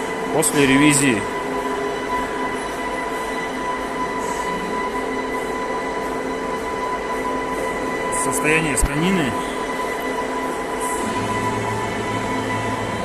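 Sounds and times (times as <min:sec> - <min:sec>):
machinery hum and whine: 0:00.0 - 0:13.0.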